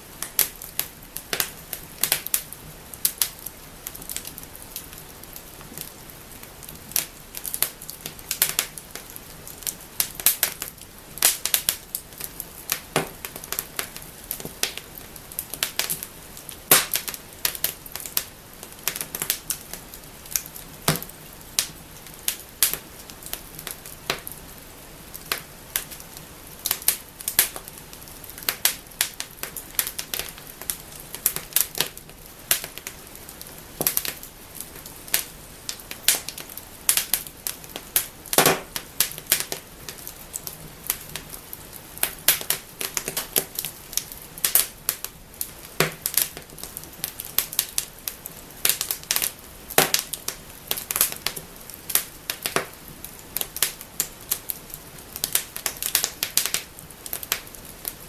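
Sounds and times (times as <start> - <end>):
low hiss of burning: 0.0 - 58.0
wood fire crackling and popping: 0.0 - 58.0.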